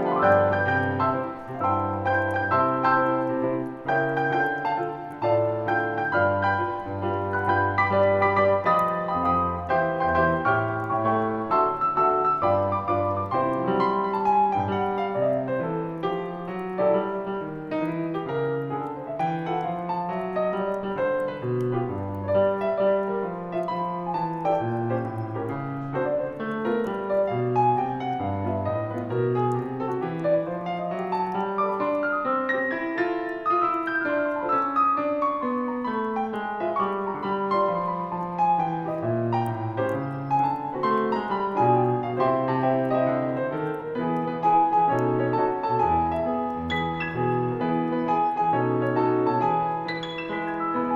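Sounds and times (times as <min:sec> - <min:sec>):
solo piano christmas song: 0:00.0 - 0:50.9.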